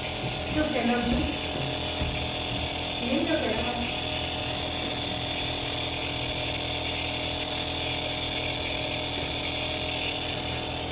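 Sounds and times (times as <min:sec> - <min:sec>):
nebulizer motor buzz: 0:00.0 - 0:10.9.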